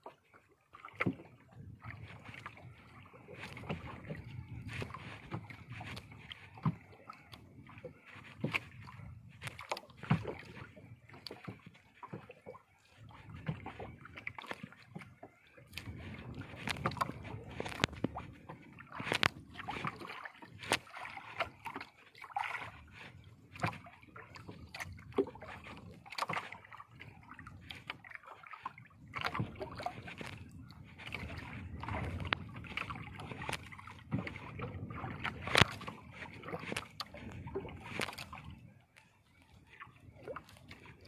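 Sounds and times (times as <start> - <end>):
water slapping against boat hull: 0.0 - 41.0.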